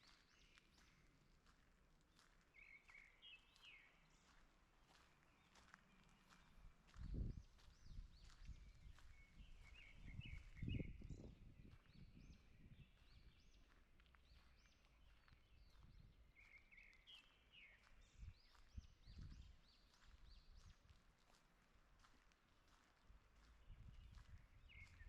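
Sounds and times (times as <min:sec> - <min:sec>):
footsteps on forest path: 0:00.0 - 0:10.7, 0:11.6 - 0:25.0.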